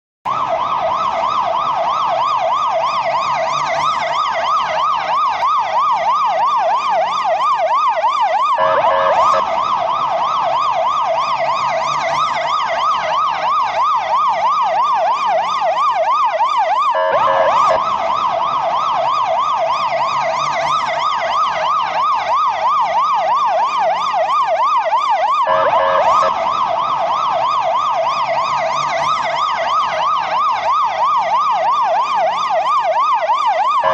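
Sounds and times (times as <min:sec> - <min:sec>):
ambulance siren yelping: 0:00.3 - 0:33.9.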